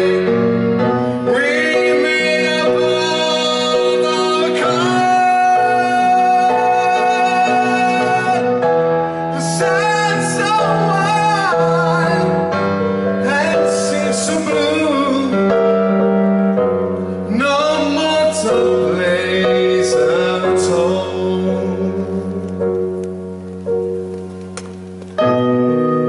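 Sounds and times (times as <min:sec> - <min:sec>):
man singing a slow ballad: 0:00.0 - 0:16.1, 0:17.0 - 0:23.0
keyboard chords: 0:00.0 - 0:26.0.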